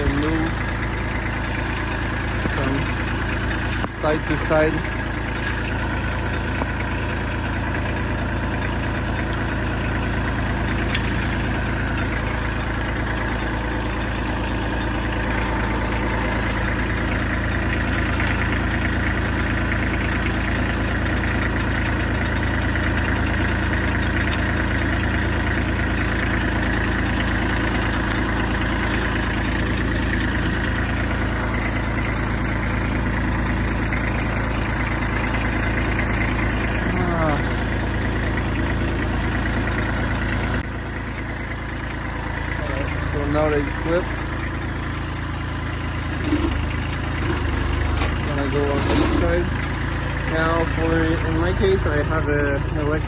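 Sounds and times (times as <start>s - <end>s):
tractor diesel engine idling: 0.0s - 53.0s.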